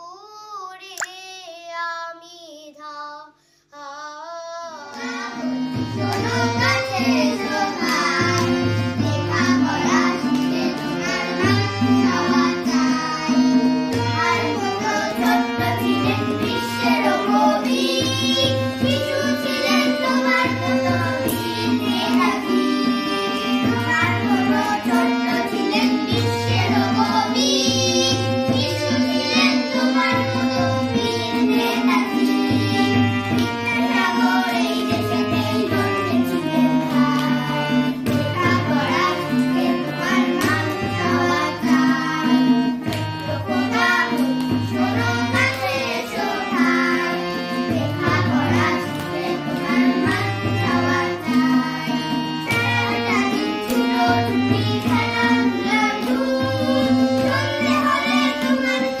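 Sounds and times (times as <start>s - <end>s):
child singing: 0.0s - 59.0s
harmonium: 3.7s - 59.0s.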